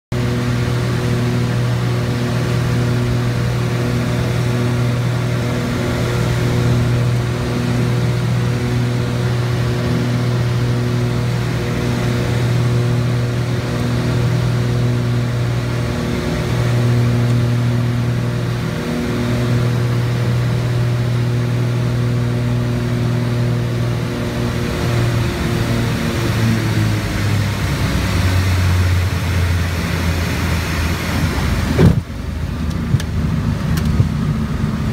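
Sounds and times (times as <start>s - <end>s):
twin propeller engines droning: 0.1s - 34.9s.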